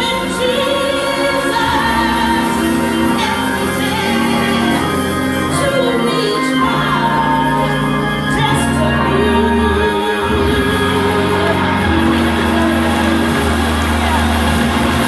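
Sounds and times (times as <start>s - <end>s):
gospel music with singing: 0.0s - 15.0s.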